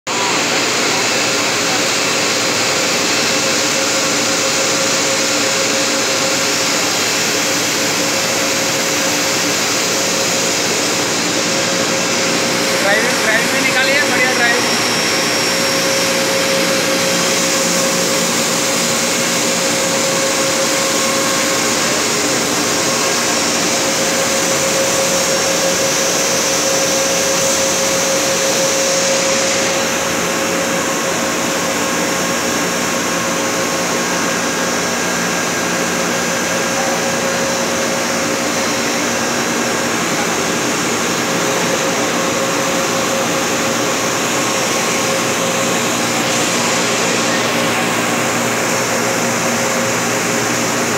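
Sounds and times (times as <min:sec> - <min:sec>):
extruder machine drone: 0:00.1 - 0:50.9.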